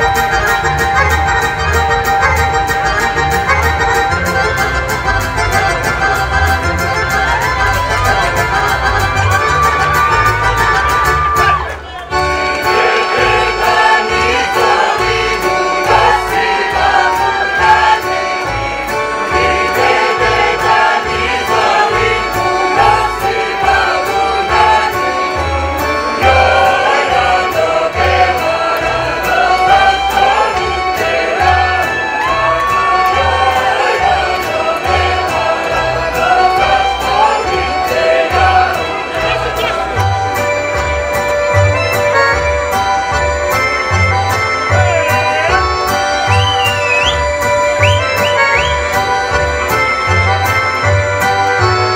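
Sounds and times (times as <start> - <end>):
folk dance music: 0.0 - 51.9.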